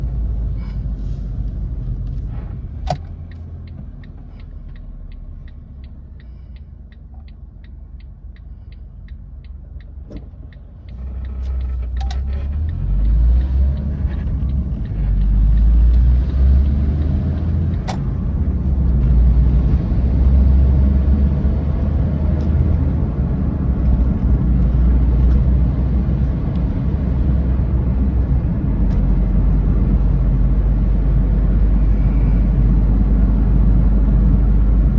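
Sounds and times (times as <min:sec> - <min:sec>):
car engine accelerating: 0:01.5 - 0:34.9.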